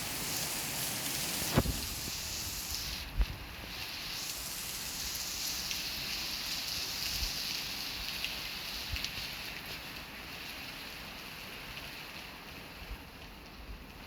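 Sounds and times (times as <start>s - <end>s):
torrential rain hissing: 0.0s - 14.0s.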